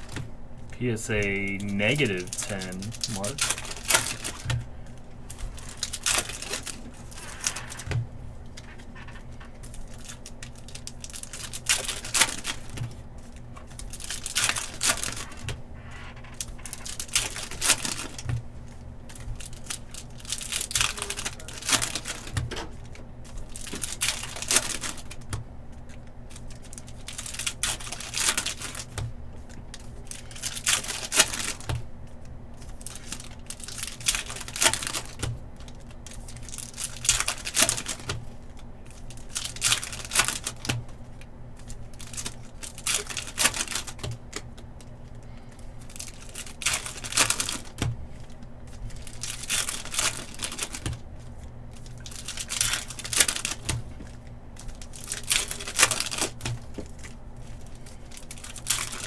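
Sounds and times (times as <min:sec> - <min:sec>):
cards rustling: 0:00.0 - 0:59.0
foil wrappers crinkling and tearing: 0:00.0 - 0:59.0.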